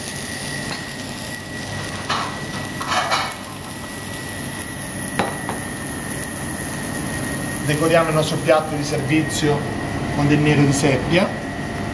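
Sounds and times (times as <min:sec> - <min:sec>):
kitchen background hiss: 0:00.0 - 0:11.9
thin high whine: 0:00.0 - 0:11.9.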